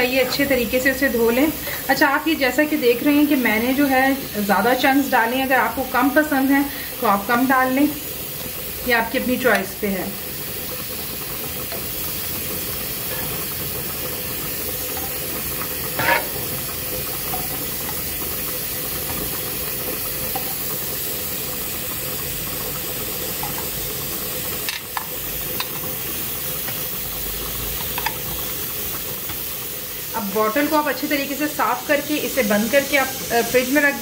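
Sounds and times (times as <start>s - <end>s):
hot pan hissing: 0.0s - 34.0s.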